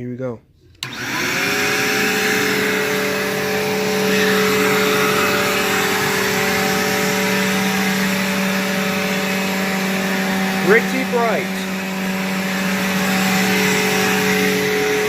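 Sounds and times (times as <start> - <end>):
vacuum cleaner running: 0.8 - 15.0.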